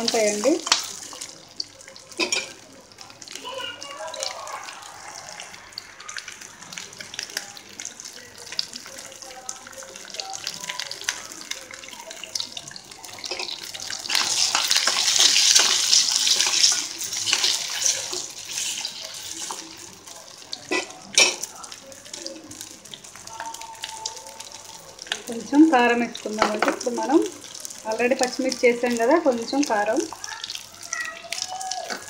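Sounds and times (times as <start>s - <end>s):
food sizzling in oil: 0.0s - 32.0s.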